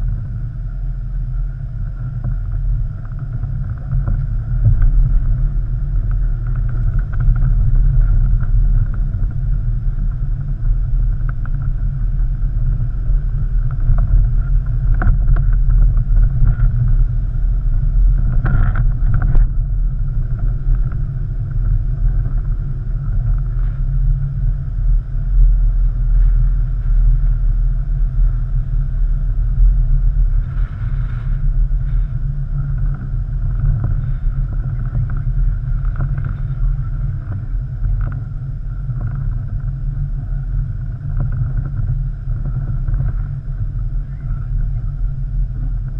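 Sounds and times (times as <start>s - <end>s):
car engine rumble: 0.0s - 45.9s
wind on microphone: 0.0s - 45.9s.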